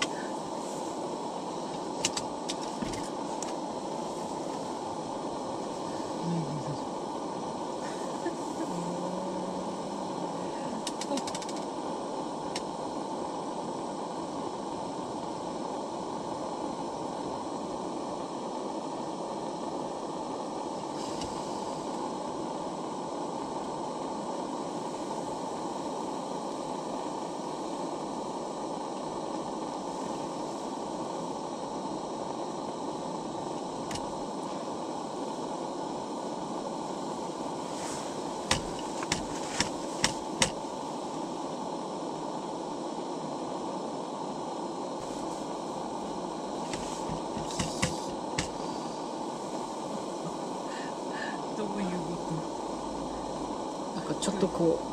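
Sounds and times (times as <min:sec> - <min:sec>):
steady rushing noise: 0:00.0 - 0:22.7, 0:23.4 - 0:41.8, 0:44.9 - 0:54.9.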